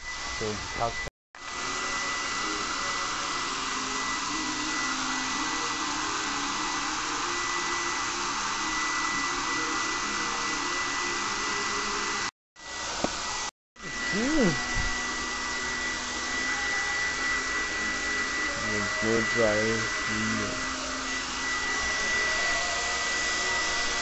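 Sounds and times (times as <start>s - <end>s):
hair dryer running: 0.0s - 24.0s.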